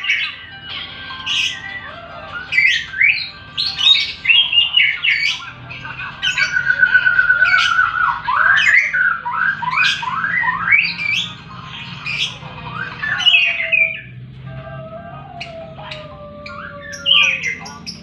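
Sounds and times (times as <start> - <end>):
fast ticking bird trill: 0.0 - 14.2, 15.3 - 18.0
lovebird squeaks and chirps: 1.1 - 14.2, 15.3 - 18.0.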